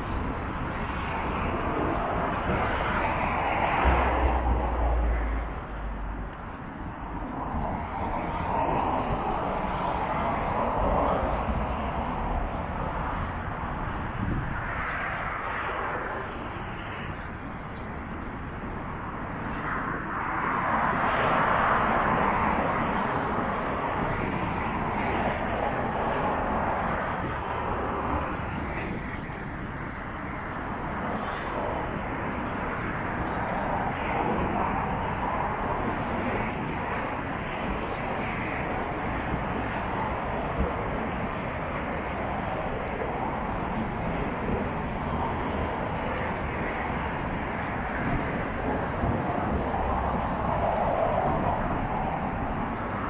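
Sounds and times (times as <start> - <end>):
cars passing: 0.0 - 53.0.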